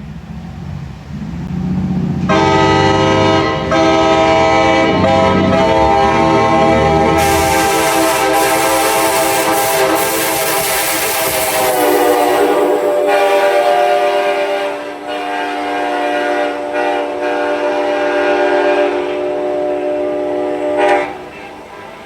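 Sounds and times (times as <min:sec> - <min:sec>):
locomotive air horn chord: 0:02.2 - 0:22.0.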